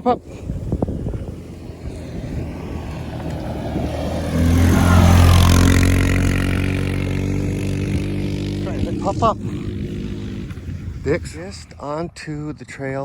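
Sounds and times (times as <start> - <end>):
atv engine passing by: 0.0 - 11.9.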